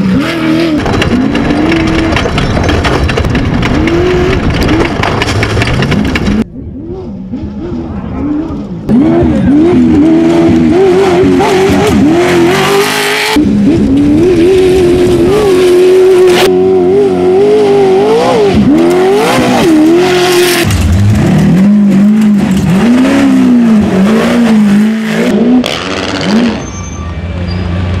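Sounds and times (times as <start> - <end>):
buggy engine revving: 0.0 - 28.0.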